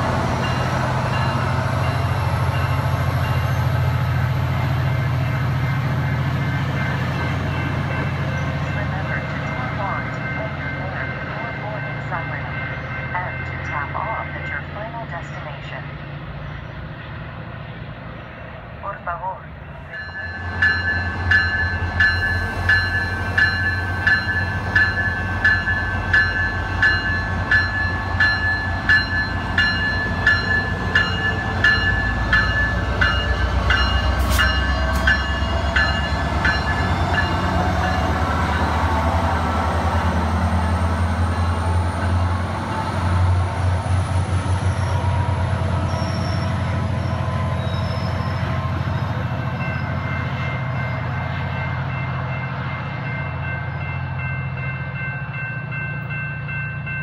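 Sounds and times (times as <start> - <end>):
locomotive bell ringing: 0.0 - 15.0, 19.8 - 43.6, 44.5 - 57.0
diesel locomotive engine drone: 0.0 - 57.0.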